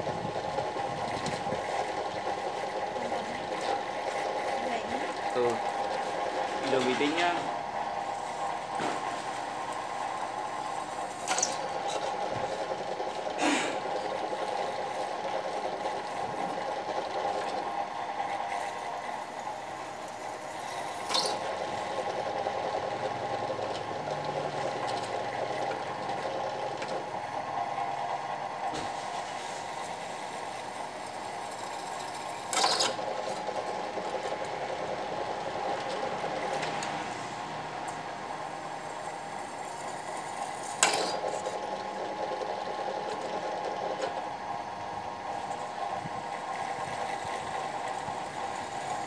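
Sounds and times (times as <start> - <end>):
machine tool motor running: 0.0 - 49.0.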